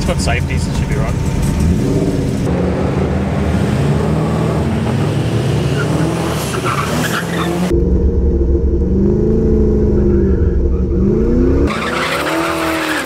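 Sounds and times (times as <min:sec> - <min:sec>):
engine revving with crackles: 0:01.5 - 0:13.0.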